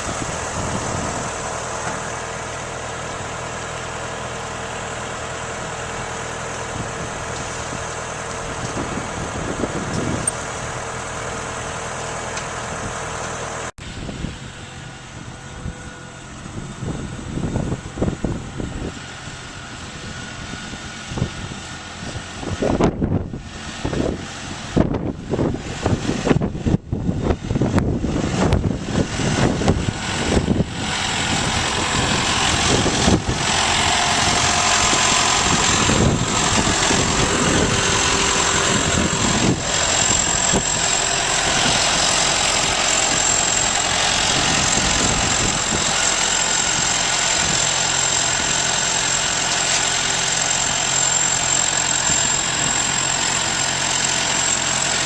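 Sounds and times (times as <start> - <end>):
gusty rumble: 0.0 - 2.2, 6.7 - 11.7, 13.8 - 54.4
farm machinery engine running: 0.0 - 55.0.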